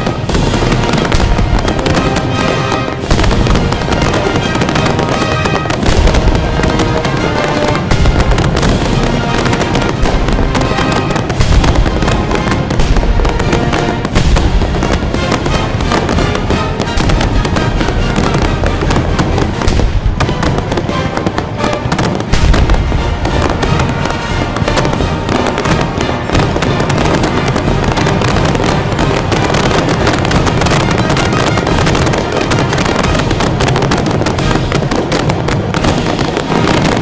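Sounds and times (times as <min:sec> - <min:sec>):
fireworks bangs and crackle: 0:00.0 - 0:37.0
music playing: 0:00.0 - 0:37.0.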